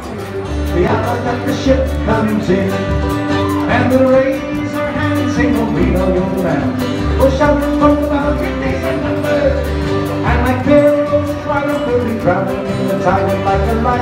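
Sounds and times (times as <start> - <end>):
live band playing: 0.0 - 14.0
person singing: 0.0 - 14.0
walking bass line: 0.0 - 14.0.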